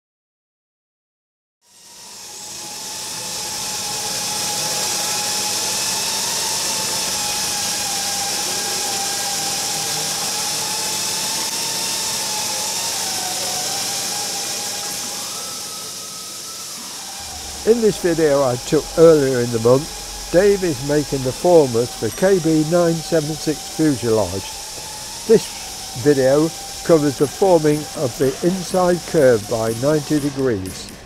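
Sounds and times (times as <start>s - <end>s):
mechanical drone with whine: 1.7s - 31.0s.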